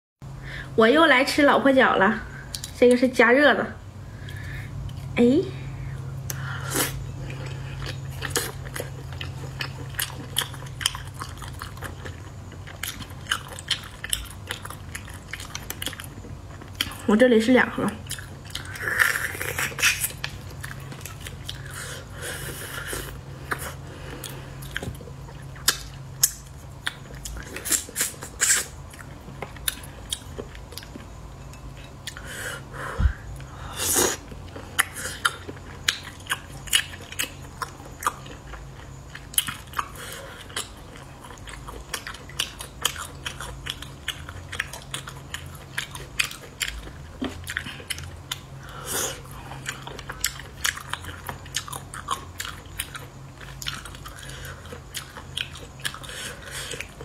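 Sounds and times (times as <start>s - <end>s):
low steady hum: 0.2s - 57.0s
sucking and chewing: 4.2s - 57.0s.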